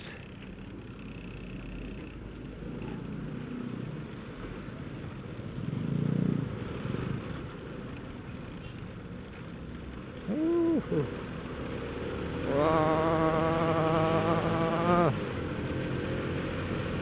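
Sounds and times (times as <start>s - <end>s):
motor traffic engine rumble: 0.0s - 17.0s.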